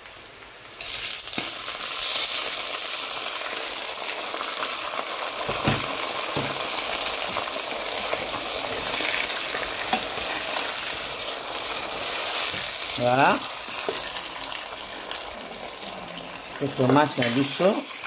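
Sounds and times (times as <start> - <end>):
tomatoes sizzling in a hot pan: 0.0 - 18.0.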